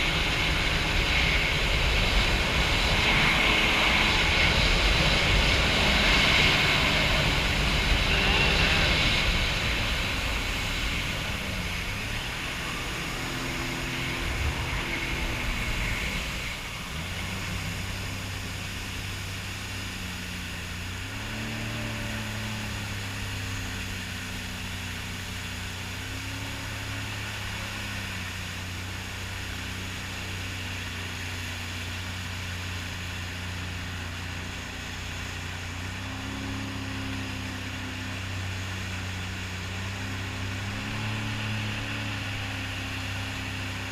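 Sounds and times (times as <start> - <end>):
hiss of wind and spray: 0.0 - 43.9
personal watercraft engine droning: 0.0 - 43.9.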